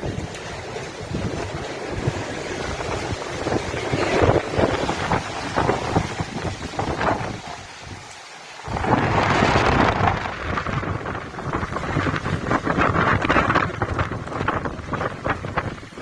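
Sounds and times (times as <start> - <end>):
heavy rain: 0.0 - 16.0
strong wind rushing: 0.0 - 16.0.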